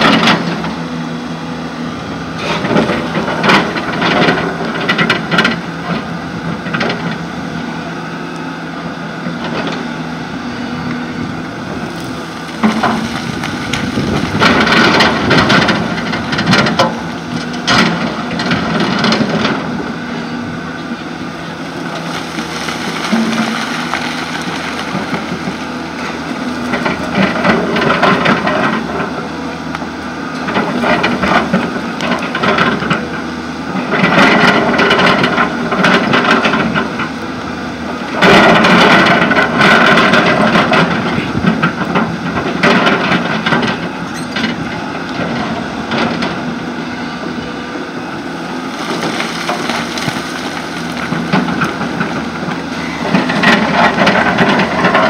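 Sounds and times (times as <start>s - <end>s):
soil and rock crunching: 0.0s - 7.3s, 9.1s - 55.0s
excavator engine surging: 0.0s - 55.0s.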